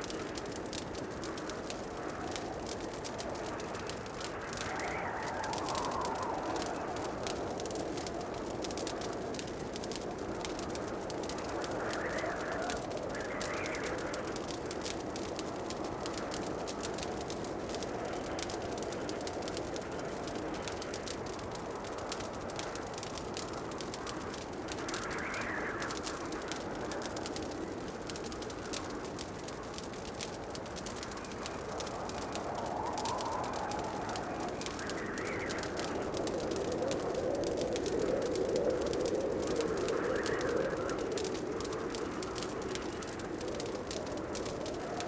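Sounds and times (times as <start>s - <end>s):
log fire crackling and popping: 0.0s - 45.0s
soft rushing background: 1.0s - 16.0s, 23.5s - 45.0s.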